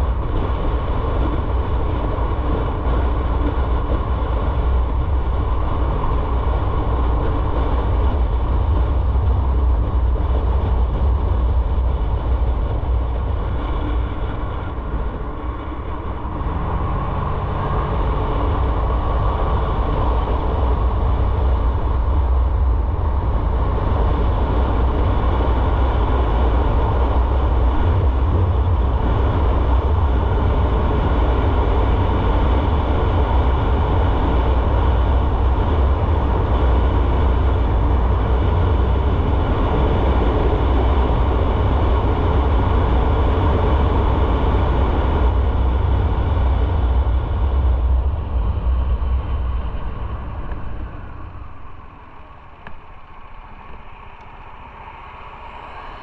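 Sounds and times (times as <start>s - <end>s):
motorcycle engine and road noise: 0.0s - 56.0s.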